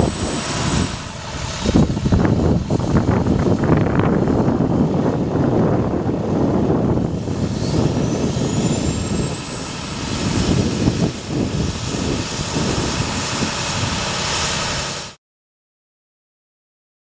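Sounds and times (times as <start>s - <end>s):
diesel truck engine running: 0.0s - 15.2s.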